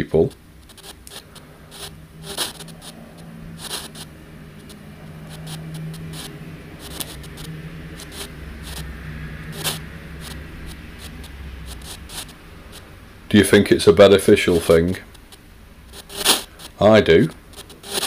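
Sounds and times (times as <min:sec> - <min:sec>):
low hum: 0:00.0 - 0:17.7
static bursts and crackle: 0:00.0 - 0:18.0.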